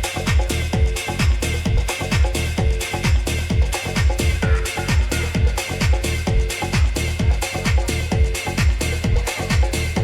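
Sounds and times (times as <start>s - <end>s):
electronic dance music: 0.0s - 10.0s
hi-hats: 0.0s - 10.0s
kick drum: 0.0s - 10.0s.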